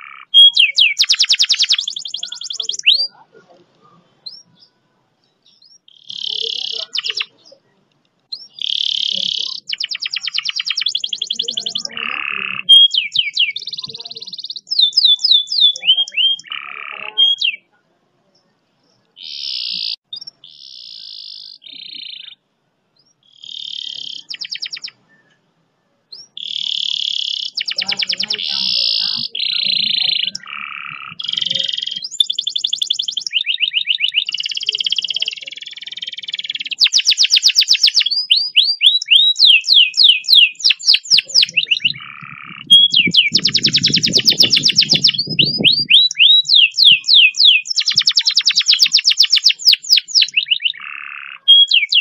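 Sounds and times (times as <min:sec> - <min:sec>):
canary singing trills: 0:00.0 - 0:25.5, 0:26.1 - 0:52.0.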